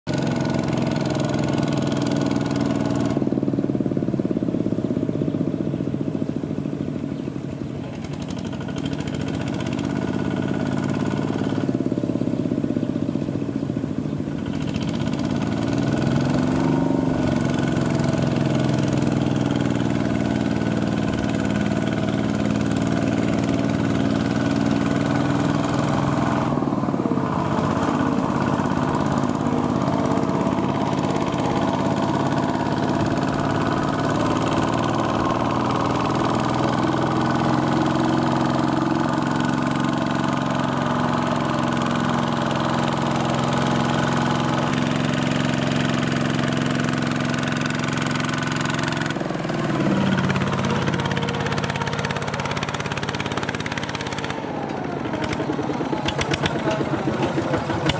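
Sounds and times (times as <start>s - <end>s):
diesel tractor engine running: 0.0s - 57.9s.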